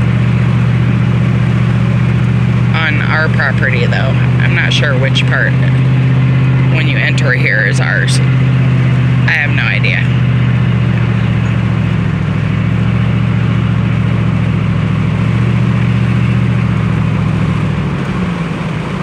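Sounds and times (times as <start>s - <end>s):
truck engine running: 0.0s - 19.0s
tyre and road noise: 0.0s - 19.0s.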